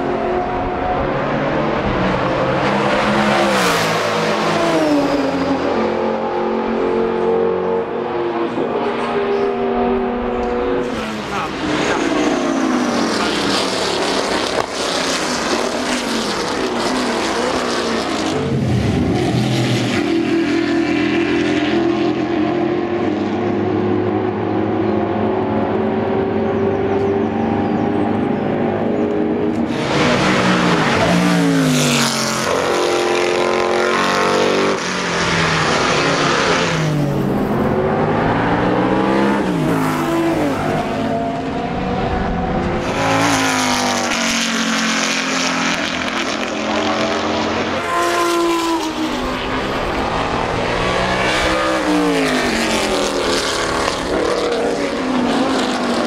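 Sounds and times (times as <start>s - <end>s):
race cars passing at speed: 0.0s - 56.0s.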